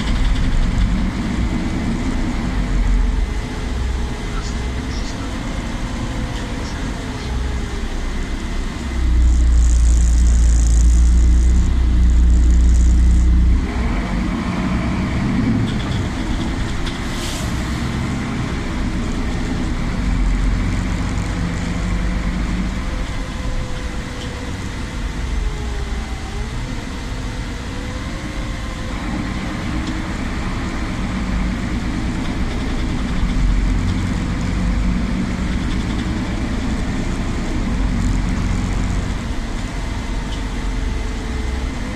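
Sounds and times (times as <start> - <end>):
bus engine and road rumble: 0.0 - 41.9
deep rumble with high hiss: 0.0 - 41.9.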